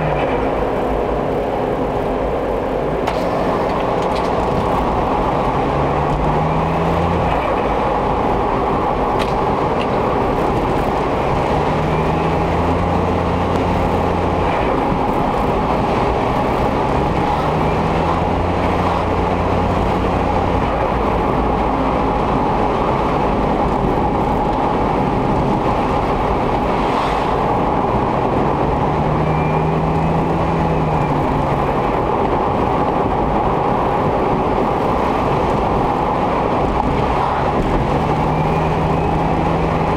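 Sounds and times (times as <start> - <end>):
car engine while driving: 0.0 - 39.9
road noise: 0.0 - 39.9.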